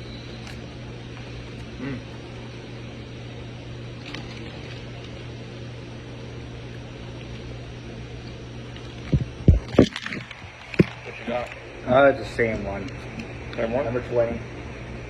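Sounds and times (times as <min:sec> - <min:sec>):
low mechanical hum: 0:00.0 - 0:15.0
room noise: 0:00.0 - 0:15.0.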